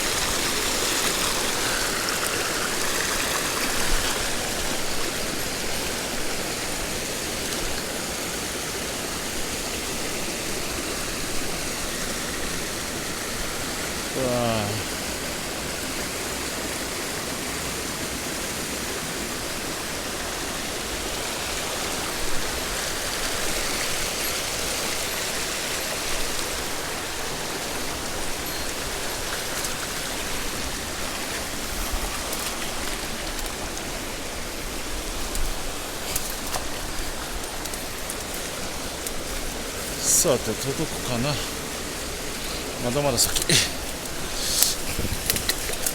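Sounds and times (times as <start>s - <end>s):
stream flowing over rocks: 0.0s - 45.9s.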